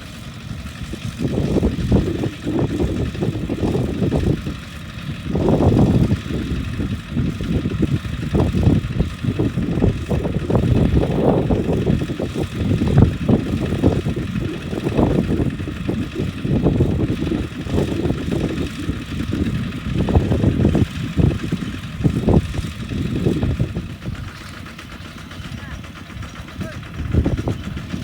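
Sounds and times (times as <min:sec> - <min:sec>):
diesel tractor engine pulsing: 0:00.0 - 0:28.0.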